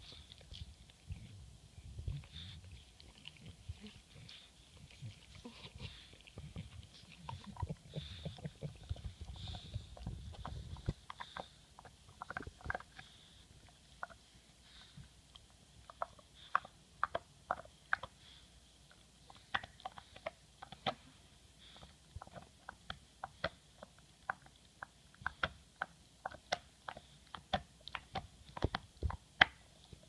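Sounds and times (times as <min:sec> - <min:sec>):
dog gnawing bone: 0:02.1 - 0:30.0.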